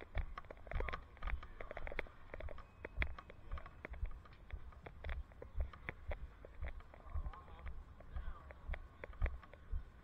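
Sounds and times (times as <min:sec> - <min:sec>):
bicycle clicks and rattles: 0:00.0 - 0:09.7.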